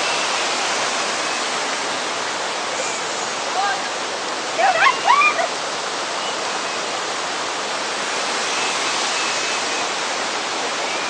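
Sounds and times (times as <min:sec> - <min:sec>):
waterfall pouring: 0:00.0 - 0:11.0.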